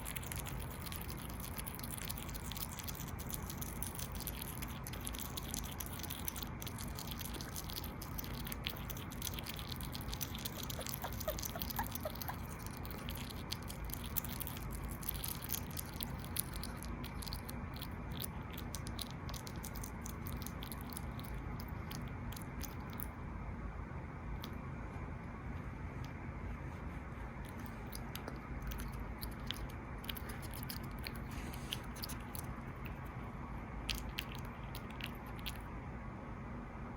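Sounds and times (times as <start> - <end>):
hedgehog chewing: 0.0 - 23.2, 25.4 - 35.8.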